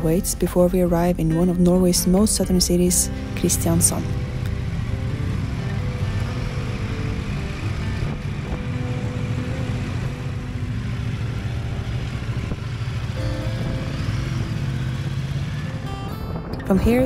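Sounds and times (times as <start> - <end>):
background music: 0.0 - 17.0
motorcycle engine at low speed: 0.0 - 17.0.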